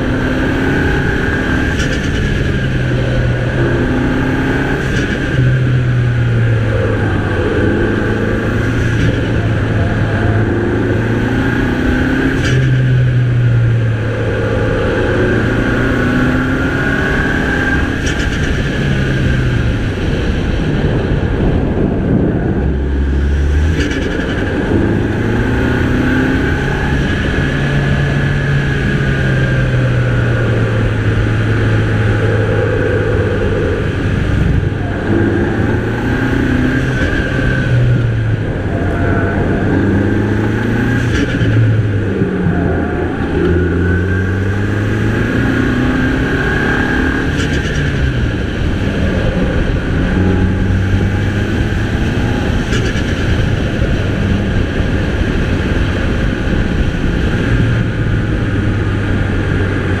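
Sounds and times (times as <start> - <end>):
car engine accelerating: 0.0 - 60.0.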